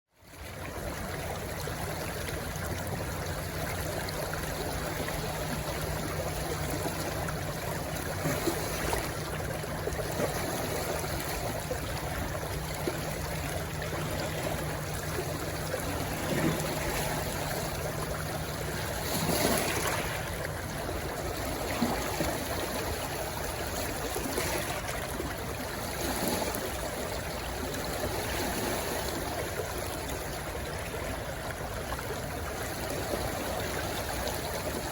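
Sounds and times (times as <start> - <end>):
stream water splashing: 0.2 - 34.9.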